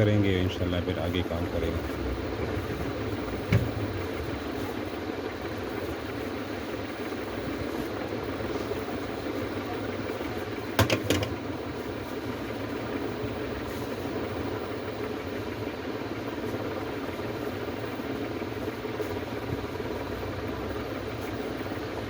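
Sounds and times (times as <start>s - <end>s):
fan-like whir: 0.0s - 22.0s.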